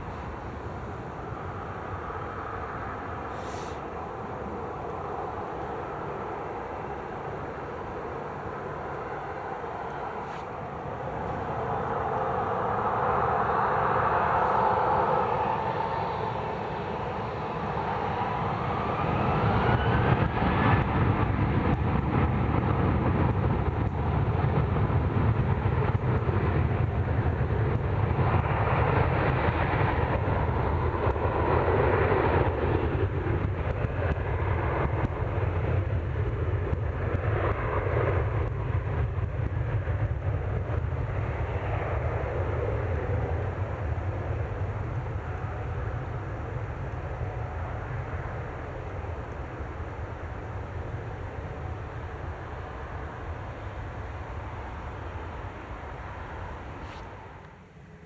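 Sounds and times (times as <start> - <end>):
jet engines whining and rumbling: 0.0 - 58.0.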